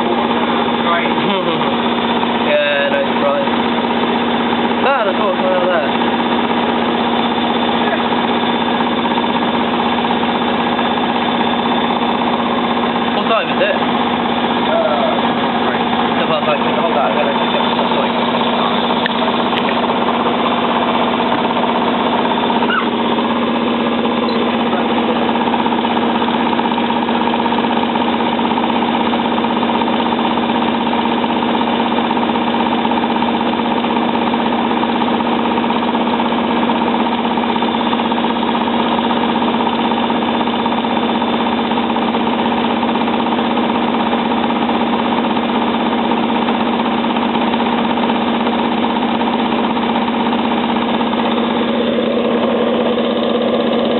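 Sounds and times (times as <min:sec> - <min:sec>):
washing machine drum droning: 0:00.0 - 0:53.9
washing machine motor whine: 0:00.0 - 0:53.9.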